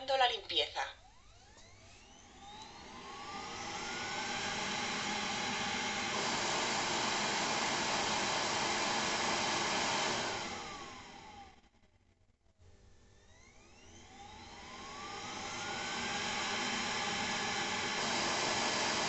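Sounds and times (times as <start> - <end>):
vacuum suction fan whirring: 1.0 - 12.0, 13.2 - 19.0.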